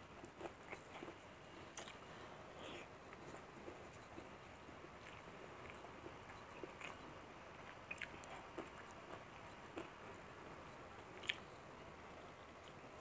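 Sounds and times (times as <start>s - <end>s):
quiet chewing: 0.1s - 11.6s, 12.6s - 12.8s.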